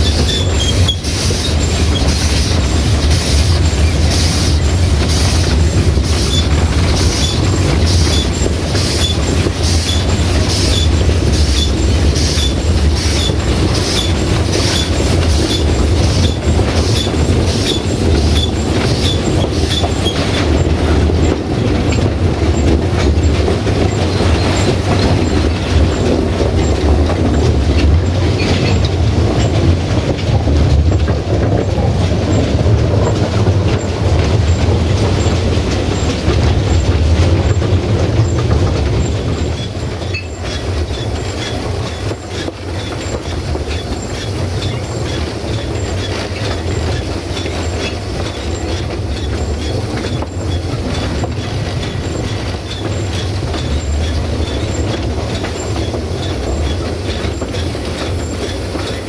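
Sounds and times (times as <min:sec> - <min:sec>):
train coaches rumbling: 0:00.0 - 0:59.0.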